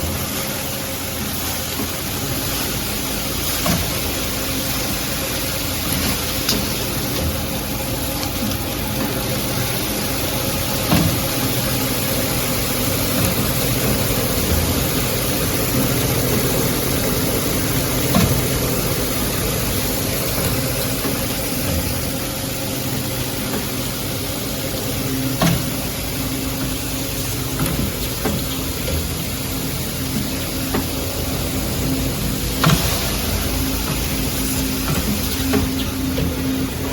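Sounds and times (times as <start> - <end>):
machinery humming: 0.0 - 36.9.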